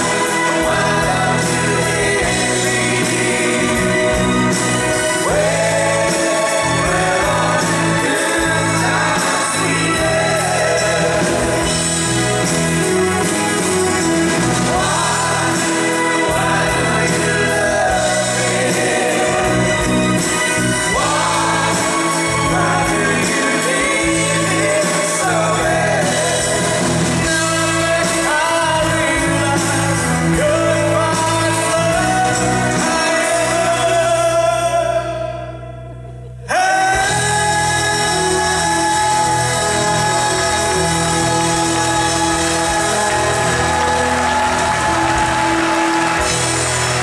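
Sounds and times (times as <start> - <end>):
men singing with harmony: 0.0 - 35.6, 36.5 - 47.0
bass guitar: 0.0 - 47.0
drums: 0.0 - 47.0.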